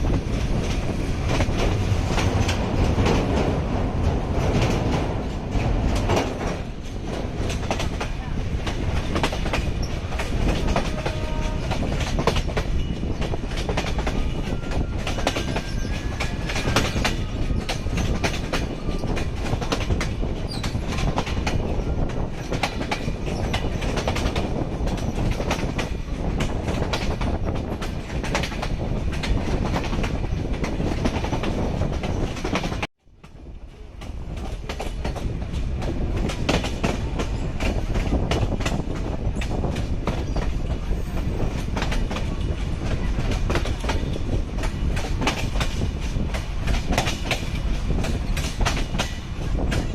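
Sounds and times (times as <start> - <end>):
train rumble: 0.0 - 49.9
wheels clickety-clack on rails: 0.0 - 49.9.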